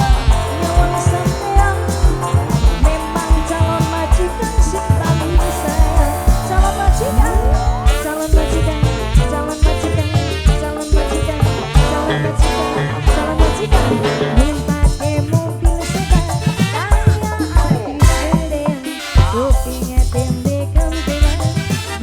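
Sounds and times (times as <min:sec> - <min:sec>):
heavy pulsing bass beat: 0:00.0 - 0:22.0
live band music: 0:00.0 - 0:22.0.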